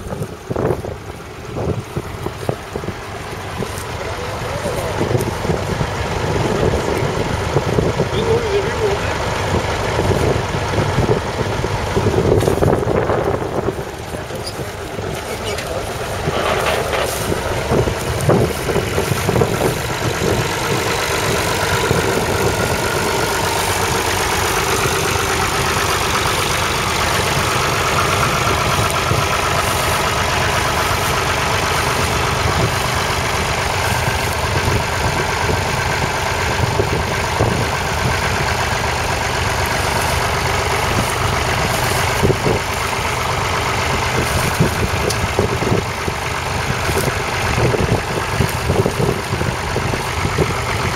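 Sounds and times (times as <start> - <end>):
diesel engine idling: 0.0 - 50.9
engine knocks: 0.0 - 50.9.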